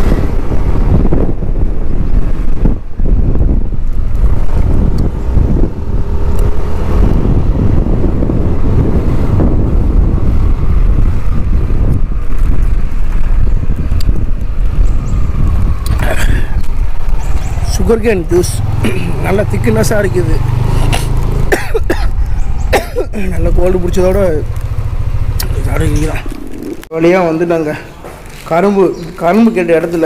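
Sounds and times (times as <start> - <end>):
road traffic noise: 0.0 - 30.0
wind buffeting microphone: 0.0 - 30.0.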